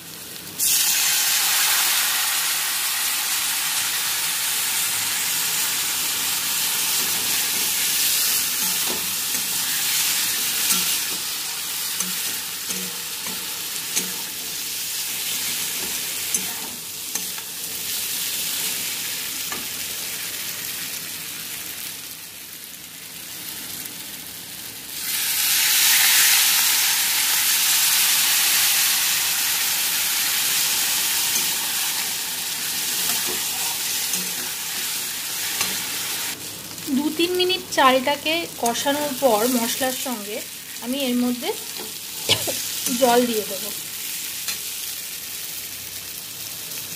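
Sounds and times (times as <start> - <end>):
food sizzling in a wok: 0.0 - 46.9.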